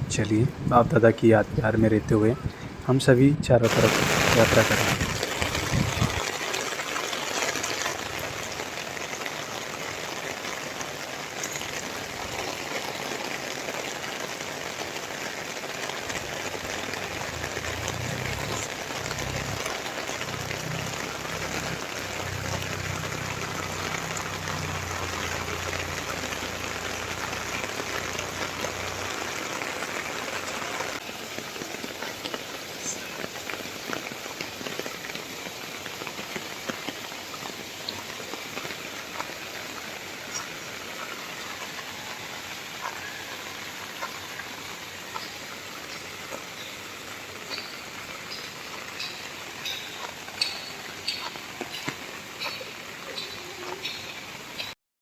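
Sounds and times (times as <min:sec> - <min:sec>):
steady rain falling: 0:00.0 - 0:54.8.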